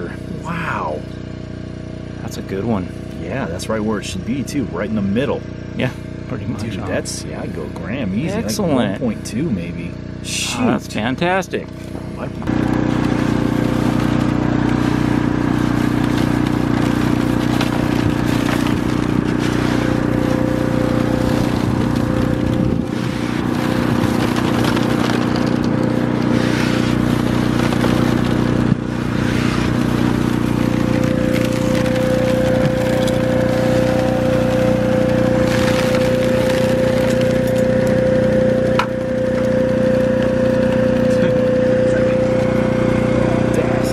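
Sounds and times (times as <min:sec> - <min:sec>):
blower engine humming: 0:00.0 - 0:43.9.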